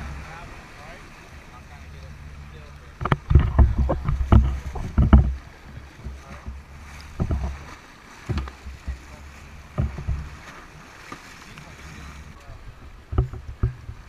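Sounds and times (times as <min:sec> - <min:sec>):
water splashing against boat: 0:00.0 - 0:14.0
wind rumbling on microphone: 0:00.0 - 0:14.0.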